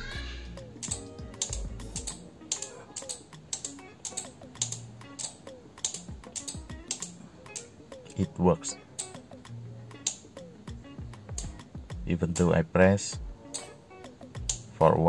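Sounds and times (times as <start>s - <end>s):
relays clicking: 0.6s - 12.6s, 13.4s - 15.0s.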